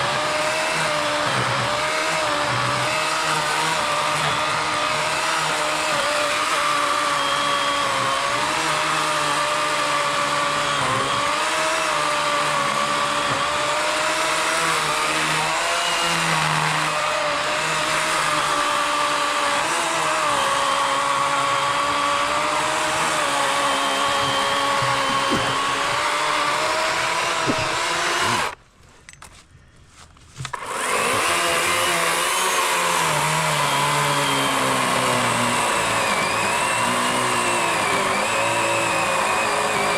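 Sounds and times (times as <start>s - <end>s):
electric chainsaw cutting log: 0.0s - 28.6s, 30.4s - 39.9s.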